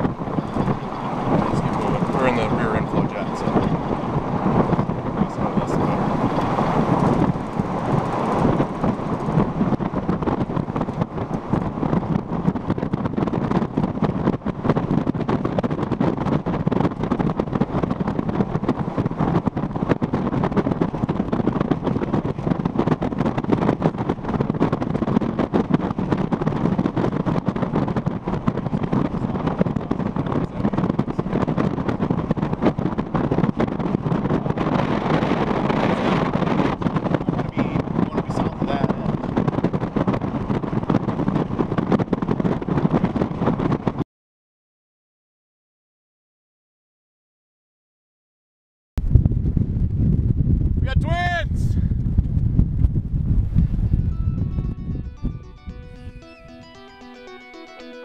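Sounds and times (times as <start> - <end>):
wind buffeting microphone: 0.0 - 44.0, 49.0 - 56.3.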